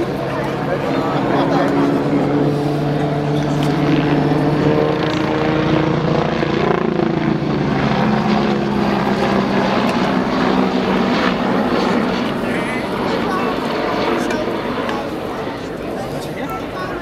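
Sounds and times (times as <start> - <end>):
helicopter rotor beat: 0.0 - 17.0
helicopter turbine whine: 0.0 - 17.0.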